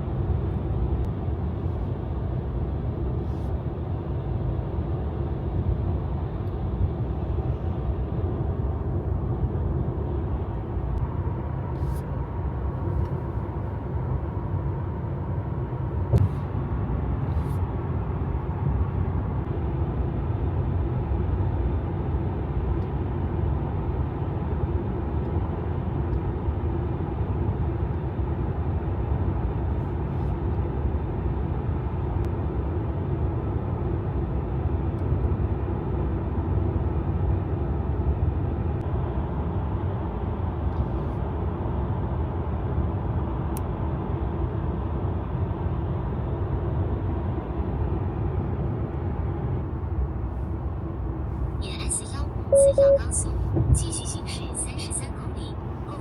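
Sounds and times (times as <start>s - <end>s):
road and tyre rumble: 0.0s - 54.3s.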